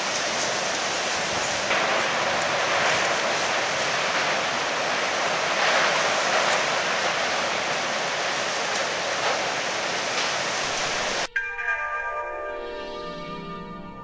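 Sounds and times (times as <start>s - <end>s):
heavy rain: 0.0s - 11.3s
wind: 0.0s - 12.4s.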